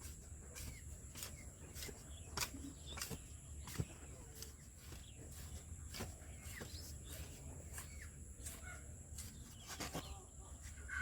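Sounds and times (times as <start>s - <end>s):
bird chirps: 0.1s - 11.0s.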